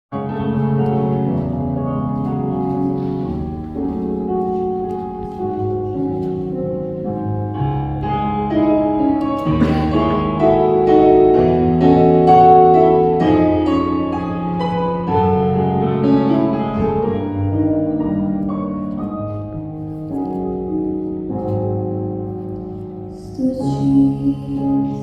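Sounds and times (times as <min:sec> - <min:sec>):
keyboard playing slow chords: 0:00.2 - 0:25.0.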